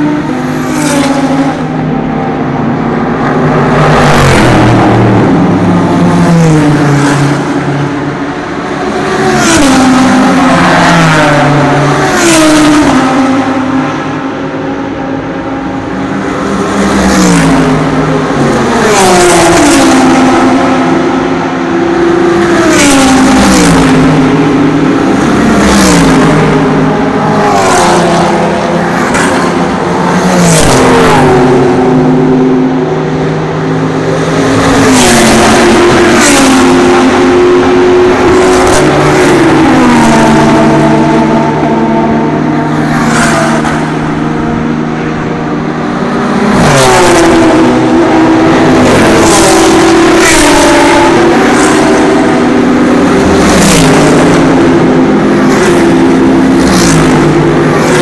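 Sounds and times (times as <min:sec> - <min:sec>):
race cars speeding past: 0:00.0 - 0:58.0.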